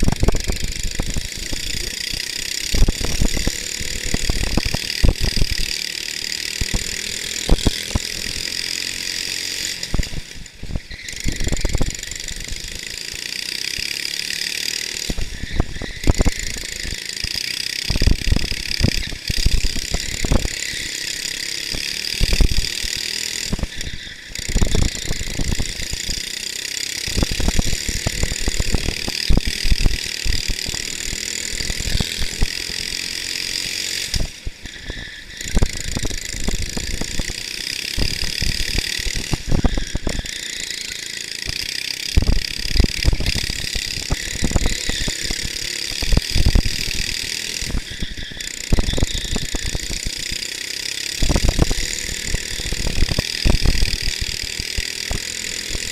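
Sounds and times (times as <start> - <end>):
kart engine whining: 0.0 - 55.9.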